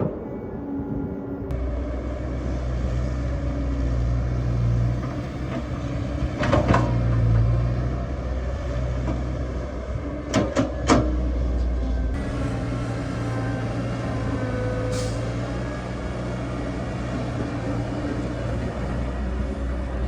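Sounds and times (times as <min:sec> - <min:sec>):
diesel engine running: 0:00.9 - 0:20.0.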